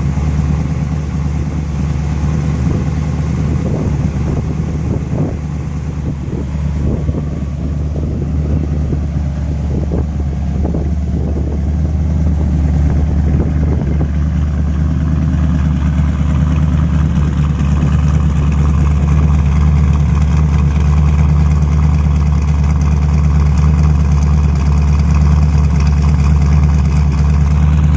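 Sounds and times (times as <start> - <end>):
truck engine running: 0.0 - 27.9.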